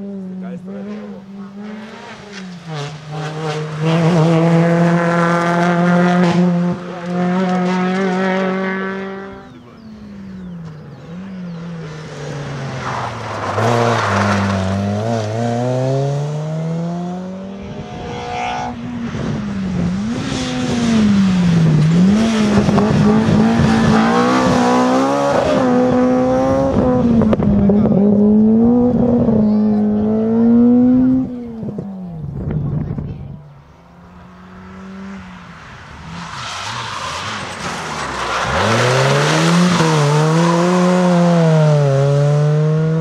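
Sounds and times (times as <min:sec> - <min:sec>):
engine revving up and down: 0:00.0 - 0:33.2, 0:33.8 - 0:43.0
rally car engines at high revs: 0:00.0 - 0:43.0.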